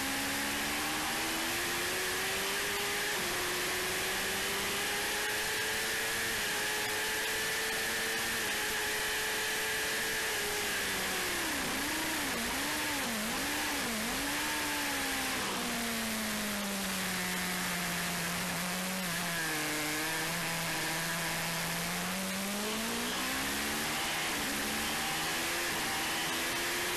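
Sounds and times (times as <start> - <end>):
motorcycle engine at speed: 0.0 - 26.9.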